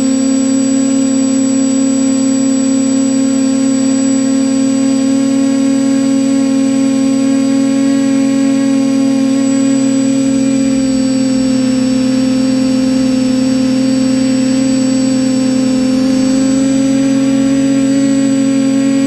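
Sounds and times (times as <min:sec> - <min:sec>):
quadcopter motors humming: 0:00.0 - 0:19.0.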